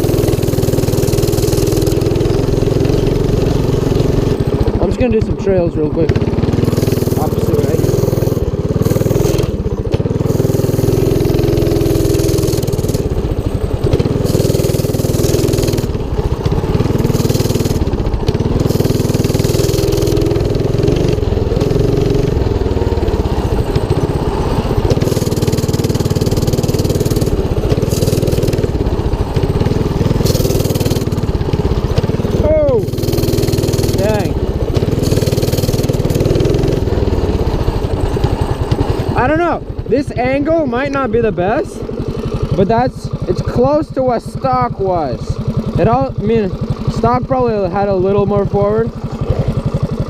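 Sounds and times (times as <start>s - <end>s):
mini bike engine revving: 0.0s - 50.0s.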